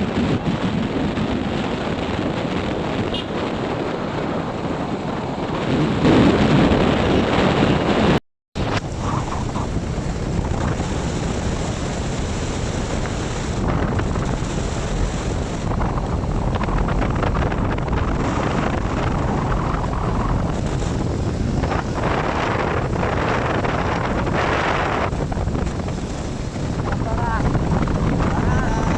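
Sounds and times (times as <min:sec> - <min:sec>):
vehicle rumble on highway: 0:00.0 - 0:28.9
wind buffeting microphone: 0:00.0 - 0:28.9.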